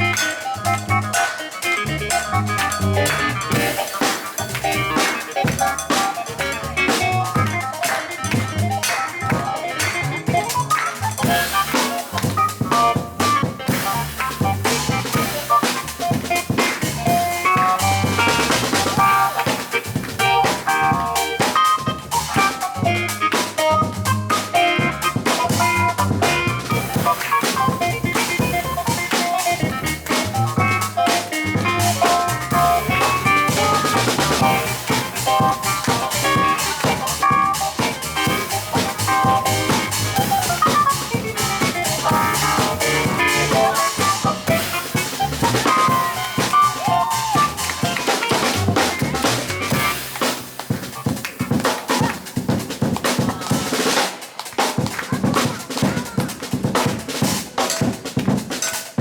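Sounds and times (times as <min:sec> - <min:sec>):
double bass: 0:00.0 - 0:50.8
piano: 0:00.0 - 0:53.9
drum kit: 0:00.0 - 0:59.0.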